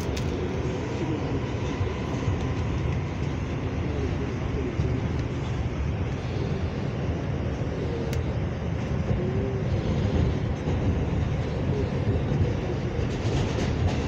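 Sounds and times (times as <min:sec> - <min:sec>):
subway car rumbling: 0:00.0 - 0:14.0.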